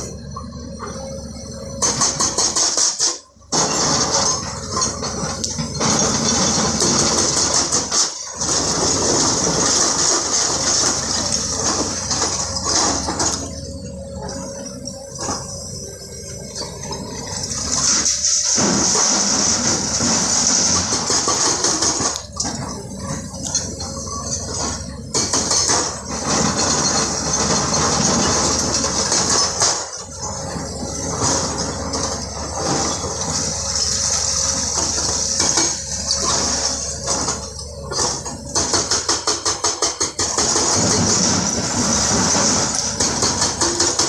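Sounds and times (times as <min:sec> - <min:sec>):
excavator engines: 0:00.0 - 0:44.0
hydraulic rock breaker hammering: 0:00.0 - 0:44.0.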